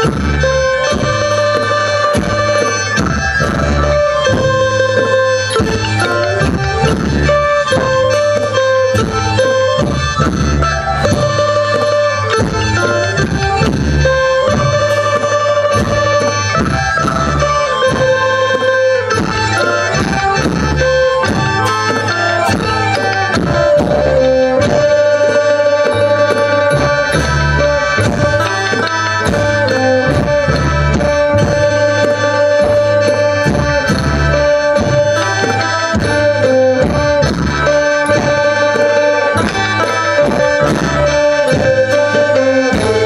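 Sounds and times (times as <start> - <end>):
drum strokes: 0.0 - 43.0
held melody notes: 0.0 - 43.0.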